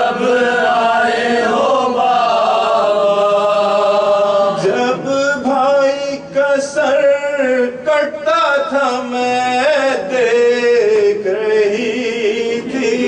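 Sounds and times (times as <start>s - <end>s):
person chanting unaccompanied: 0.0s - 13.0s.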